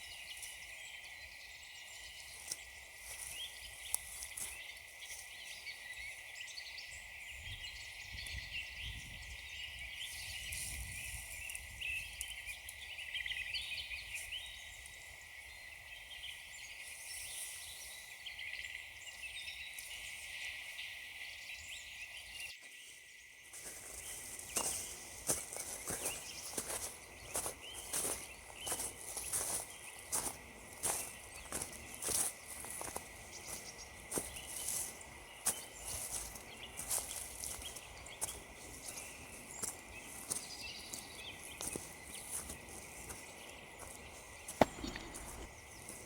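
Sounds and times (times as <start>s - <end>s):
songbirds chirping and singing: 0.0s - 46.0s.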